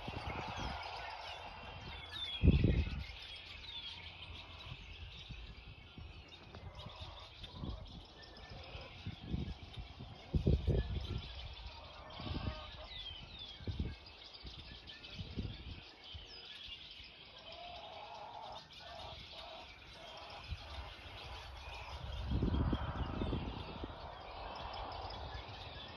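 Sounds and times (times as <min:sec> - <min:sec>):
wind buffeting microphone: 0:00.0 - 0:16.4, 0:19.1 - 0:25.9
birds chirping: 0:00.0 - 0:25.9.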